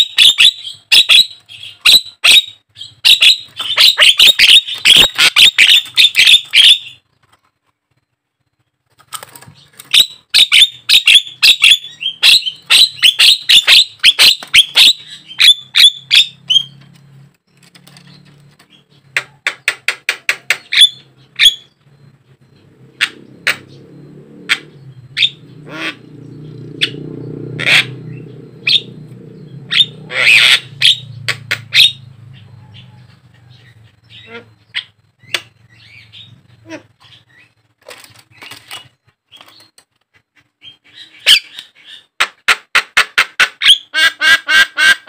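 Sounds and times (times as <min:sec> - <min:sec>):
bird chattering calls: 0:00.0 - 0:07.0, 0:09.5 - 0:16.9, 0:18.0 - 0:37.7, 0:40.4 - 0:45.0.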